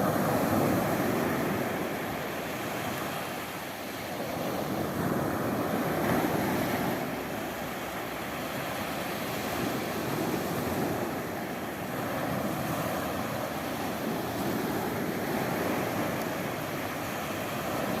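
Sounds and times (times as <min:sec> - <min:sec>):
sea waves surf: 0:00.0 - 0:18.0.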